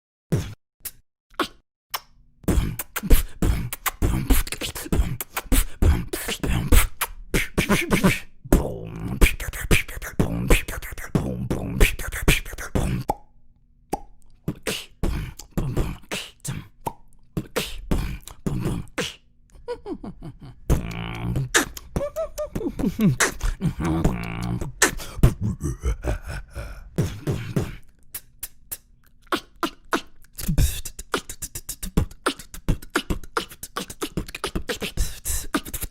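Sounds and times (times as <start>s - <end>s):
person beatboxing: 0.3s - 13.2s, 13.9s - 19.2s, 20.5s - 35.9s.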